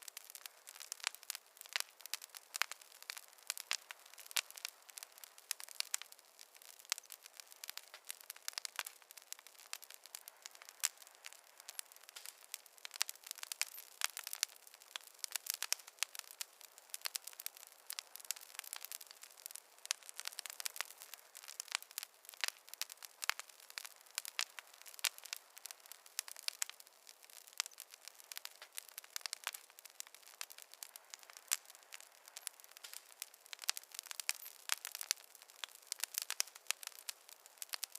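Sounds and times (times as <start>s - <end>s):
faint hiss: 0.0s - 37.9s
fire crackling and popping: 0.0s - 37.9s.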